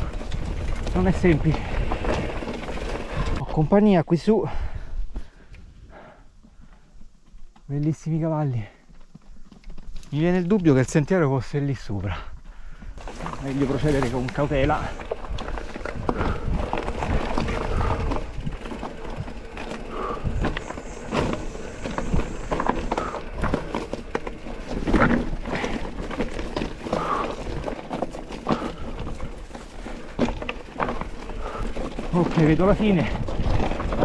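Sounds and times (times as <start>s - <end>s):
tyres crunching over stones: 0.0s - 3.7s, 6.6s - 34.0s
bike rattling: 0.0s - 34.0s.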